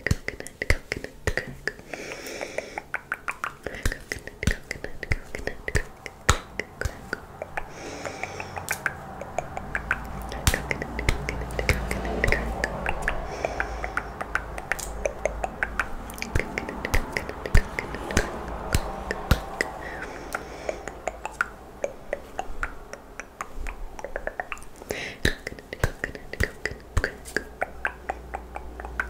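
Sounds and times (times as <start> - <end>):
wet tongue clicks and lip pops: 2.8 - 7.7, 8.4 - 19.7, 20.7 - 29.0.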